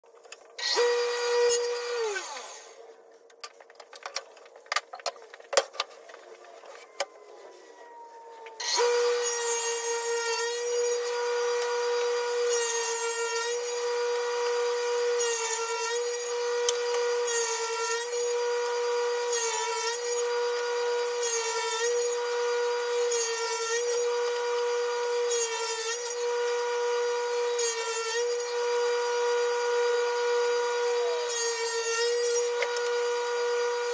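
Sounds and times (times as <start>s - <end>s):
table saw cutting wood: 0.6s - 2.9s, 8.6s - 33.9s
table saw running: 0.6s - 2.9s, 8.6s - 33.9s.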